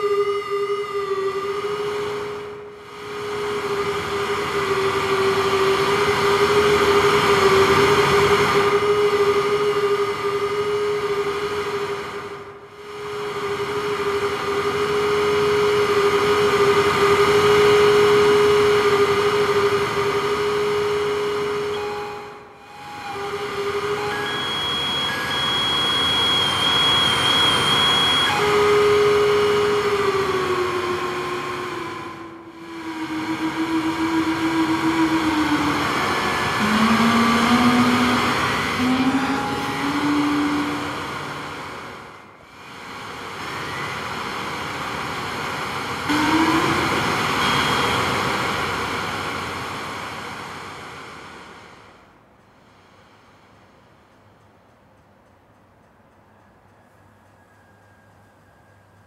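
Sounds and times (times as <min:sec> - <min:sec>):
short rising tones: 0:00.0 - 0:45.4, 0:46.0 - 0:51.9
analog synthesizer drone: 0:00.0 - 0:52.3.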